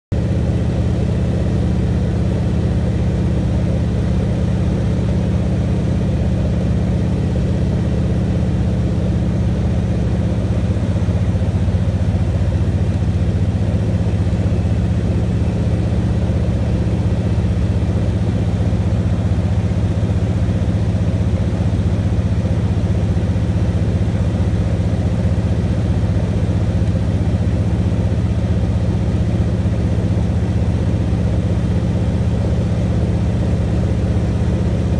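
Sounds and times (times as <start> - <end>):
propeller plane engine droning: 0.1 - 34.9.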